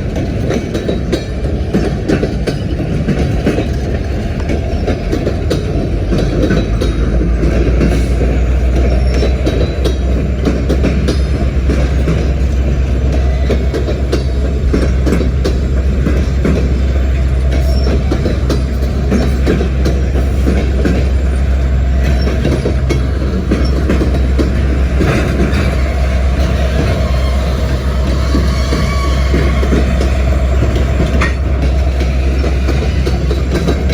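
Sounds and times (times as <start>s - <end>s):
freight train rumble: 0.0s - 33.9s
wheels clicking over rail joints: 0.0s - 33.9s.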